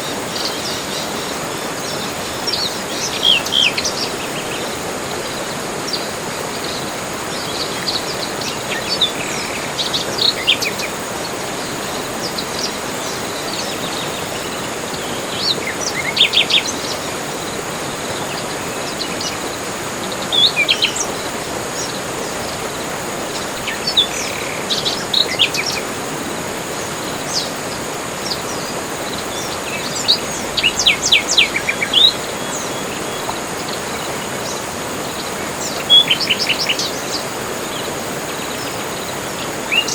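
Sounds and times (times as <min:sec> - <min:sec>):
background hiss: 0:00.0 - 0:39.9
faint high continuous tone: 0:00.0 - 0:39.9.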